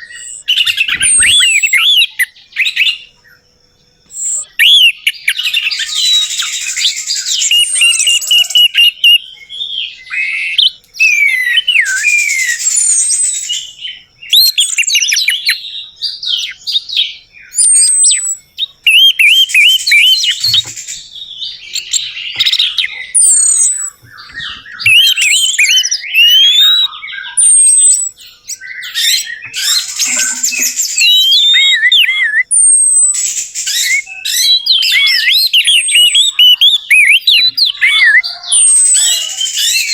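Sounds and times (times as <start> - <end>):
thrush singing whistled phrases: 0.0 - 3.1, 4.1 - 39.9.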